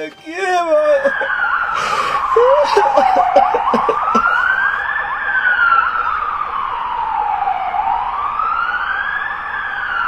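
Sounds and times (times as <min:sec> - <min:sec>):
wailing siren: 0:00.1 - 0:10.0.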